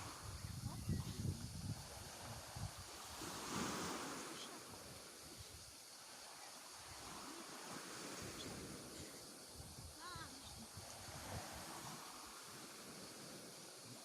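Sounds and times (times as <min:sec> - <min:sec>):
wind on microphone: 0:00.0 - 0:05.8, 0:06.8 - 0:14.0
sea surf: 0:00.0 - 0:14.0.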